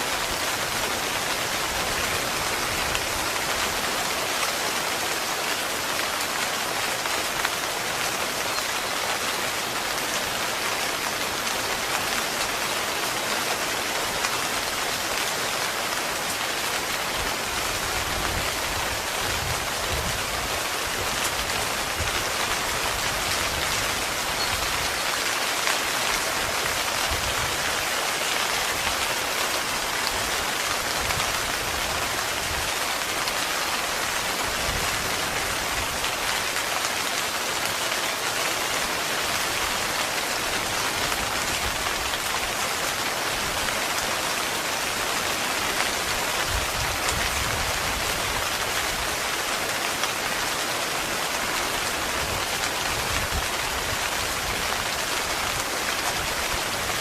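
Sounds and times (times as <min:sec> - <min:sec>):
heavy rain on tent fabric: 0:00.0 - 0:57.0.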